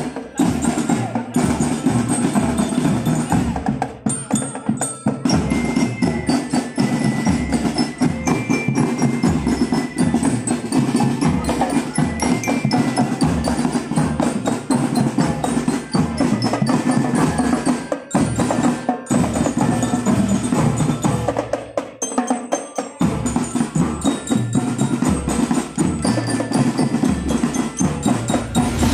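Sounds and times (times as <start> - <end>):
drums beating: 0.0 - 21.2, 23.1 - 28.9
bell-like mallet tones: 0.0 - 28.9.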